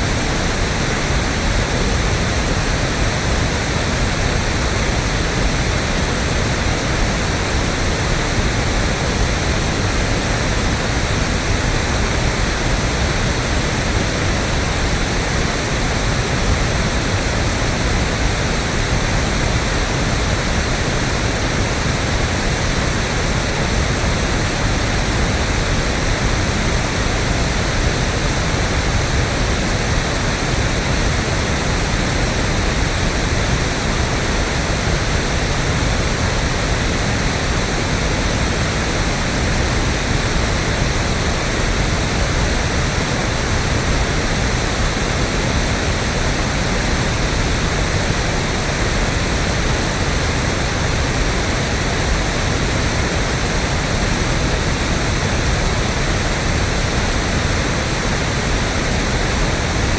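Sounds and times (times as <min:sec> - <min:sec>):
pink noise static: 0:00.0 - 0:59.9.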